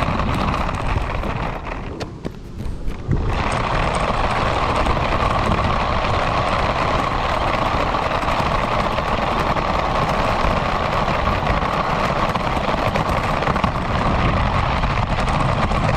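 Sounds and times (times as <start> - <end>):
radio-controlled car motor running: 0.0 - 15.9
tyre noise: 0.0 - 15.9.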